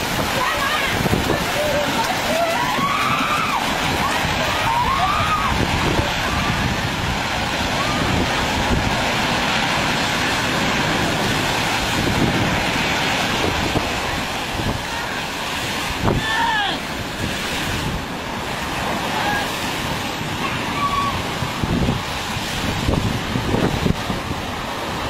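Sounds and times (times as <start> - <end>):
surf breaking on rocky shore: 0.0 - 25.0
wind blowing on microphone: 0.0 - 25.0.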